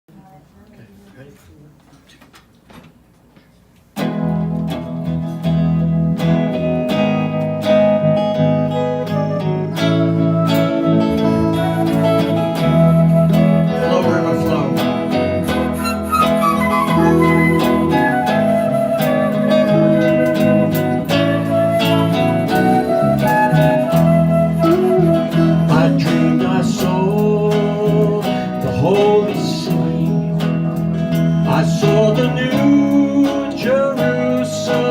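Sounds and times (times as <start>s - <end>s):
acoustic guitar strumming chords: 4.0s - 34.9s.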